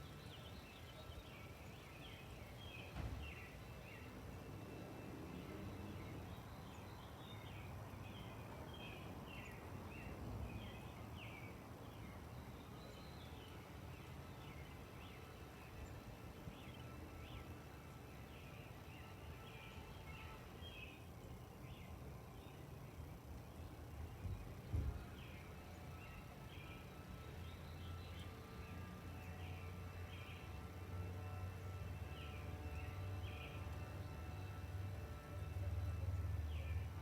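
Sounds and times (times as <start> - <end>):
birds chirping faintly: 0.0 - 37.0.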